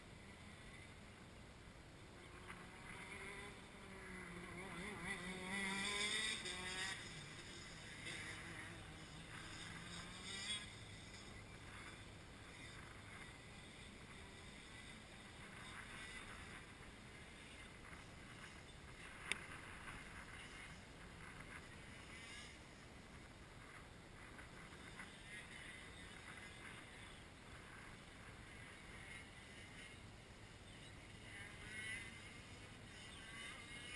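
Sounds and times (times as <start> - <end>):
distant kart engines: 0.0 - 33.9.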